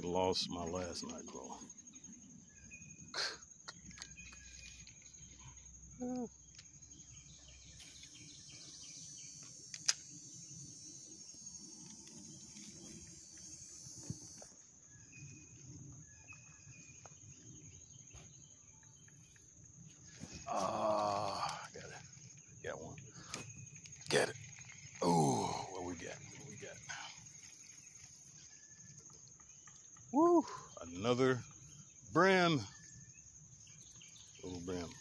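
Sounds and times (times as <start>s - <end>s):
faint bird chirps: 0.0s - 35.0s
insects droning: 0.0s - 35.0s.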